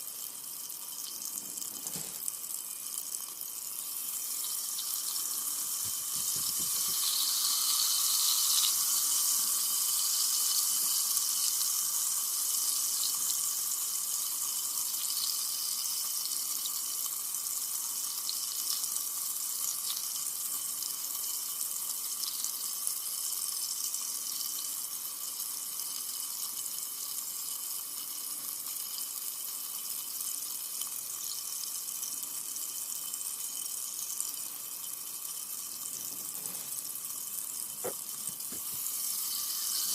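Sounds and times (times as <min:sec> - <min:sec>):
soda fizzing: 0:00.0 - 0:39.9.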